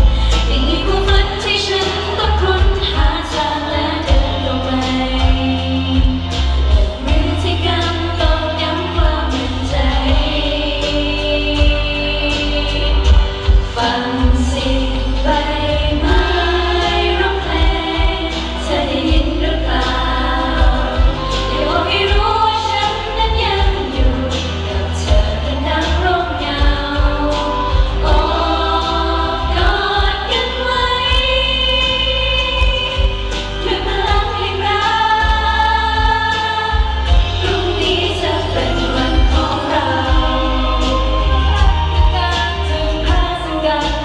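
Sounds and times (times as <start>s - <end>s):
pop backing track with bass and beat: 0.0s - 44.0s
women singing into microphones: 0.0s - 44.0s.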